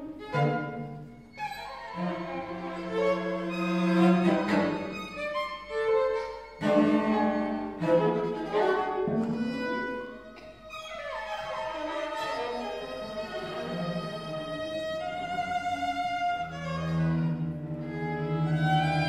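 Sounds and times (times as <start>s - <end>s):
contemporary chamber music strings: 0.0s - 19.0s.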